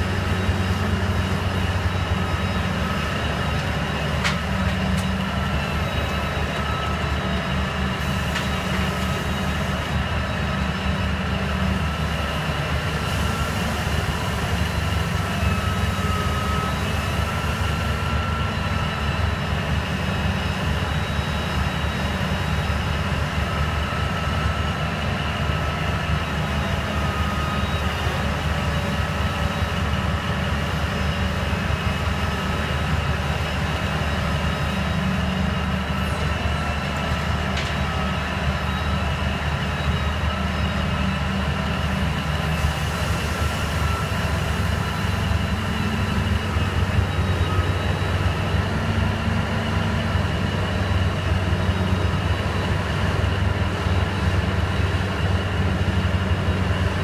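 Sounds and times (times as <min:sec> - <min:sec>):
excavator diesel engine and hydraulics: 0:00.0 - 0:57.0.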